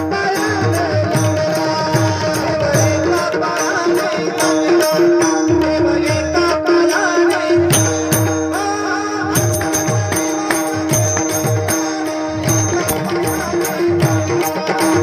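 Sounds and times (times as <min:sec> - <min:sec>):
tabla rhythm: 0:00.0 - 0:15.0.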